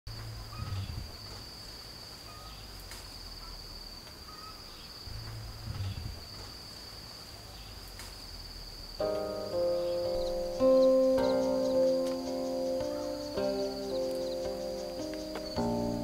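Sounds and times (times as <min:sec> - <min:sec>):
insects chirring drone: 0:00.1 - 0:16.0.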